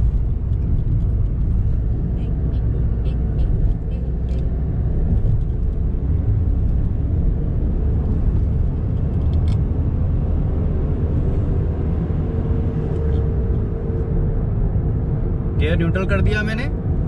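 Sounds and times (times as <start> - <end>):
low humming drone in car cabin: 0.0 - 17.0
road noise: 0.0 - 17.0.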